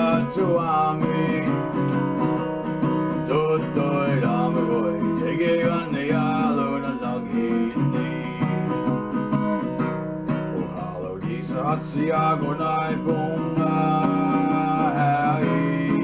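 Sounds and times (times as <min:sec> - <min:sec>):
person singing: 0:00.0 - 0:02.0, 0:03.2 - 0:09.2, 0:10.5 - 0:16.0
strummed acoustic guitar: 0:00.0 - 0:16.0.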